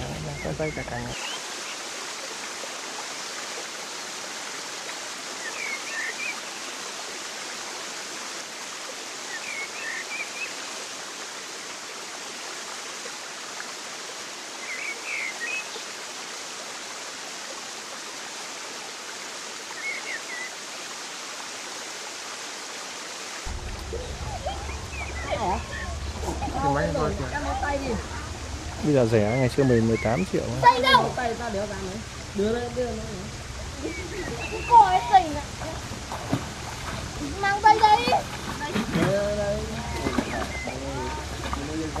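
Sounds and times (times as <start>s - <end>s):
flowing water rushing: 0.0s - 42.0s.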